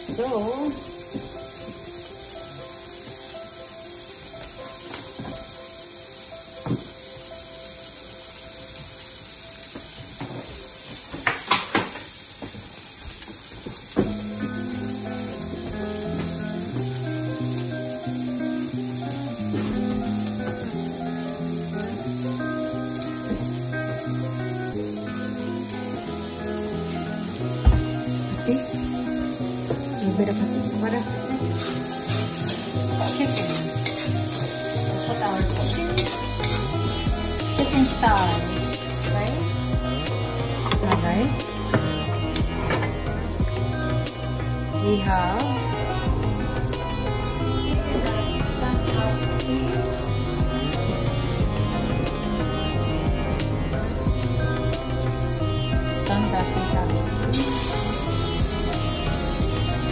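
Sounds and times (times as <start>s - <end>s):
background music: 0.0s - 59.9s
food sizzling in wok: 0.0s - 59.9s.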